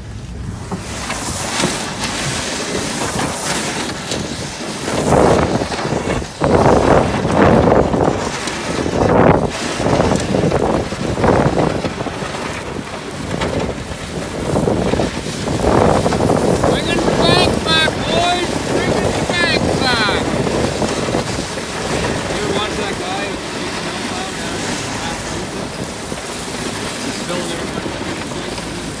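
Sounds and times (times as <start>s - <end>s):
snow plow pushing through snow: 0.0s - 29.0s.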